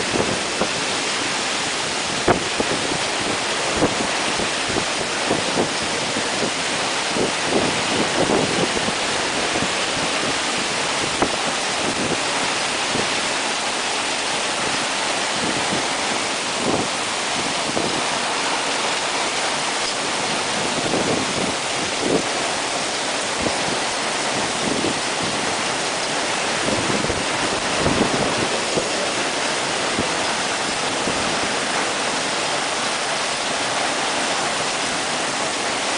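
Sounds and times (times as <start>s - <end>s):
heavy rain pouring: 0.0s - 35.9s
wind gusts buffeting microphone: 0.0s - 35.9s.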